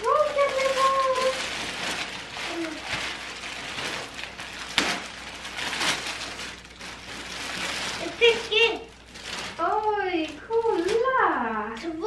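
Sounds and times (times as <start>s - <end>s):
sharp crackle: 0.0s - 11.1s
garment and wrapping rustling: 0.0s - 12.0s.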